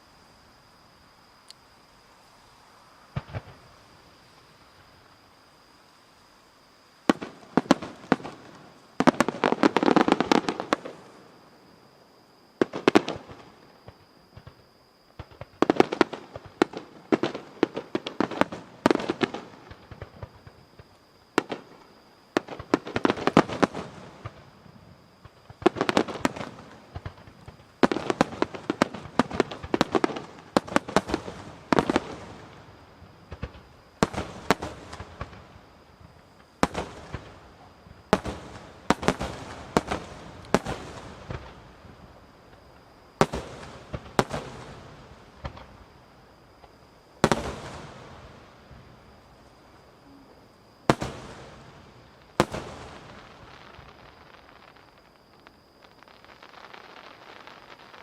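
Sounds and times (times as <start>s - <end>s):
fireworks bangs and crackles: 3.1s - 3.7s, 7.1s - 11.2s, 12.6s - 14.6s, 15.2s - 58.0s.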